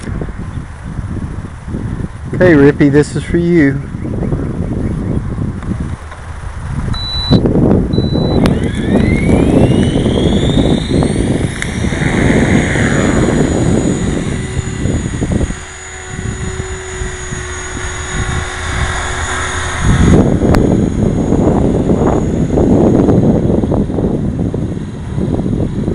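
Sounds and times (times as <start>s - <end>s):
model helicopter rotor whine: 0.0s - 25.9s.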